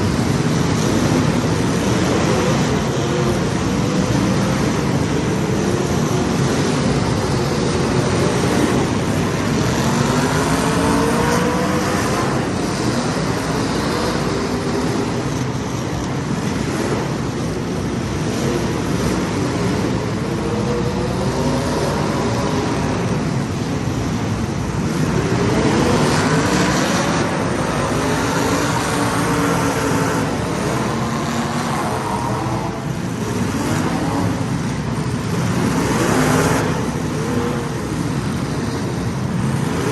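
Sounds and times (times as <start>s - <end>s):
racing engines: 0.0s - 39.9s.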